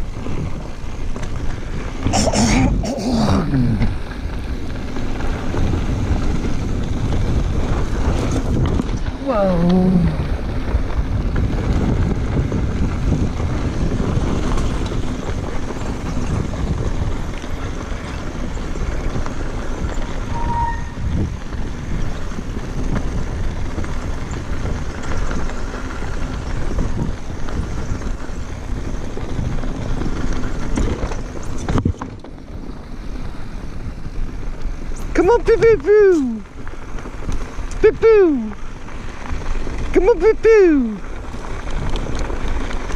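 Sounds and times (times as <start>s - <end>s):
bike rumbling and rattling on trail: 0.0s - 42.9s
wind buffeting microphone: 0.0s - 42.9s.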